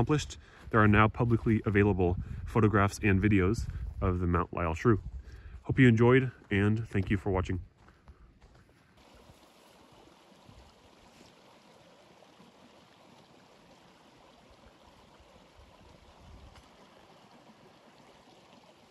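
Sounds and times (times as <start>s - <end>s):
soft outdoor rush: 0.0s - 18.9s.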